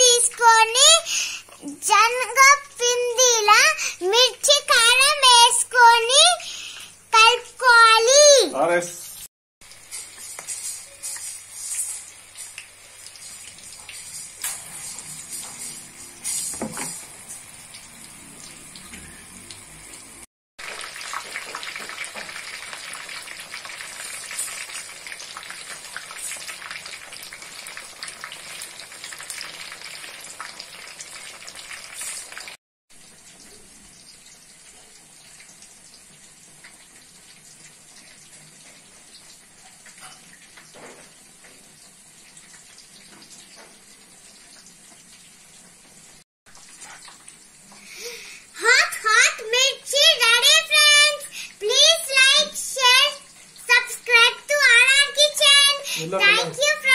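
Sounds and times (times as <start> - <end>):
chillies deep-frying in oil: 0.0 - 56.9.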